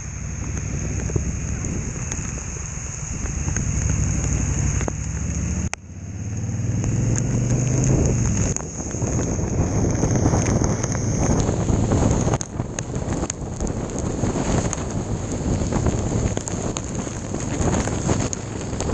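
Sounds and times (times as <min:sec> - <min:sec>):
low rumble of wind: 0:00.0 - 0:18.9
rain and ice against vehicle: 0:00.0 - 0:18.9.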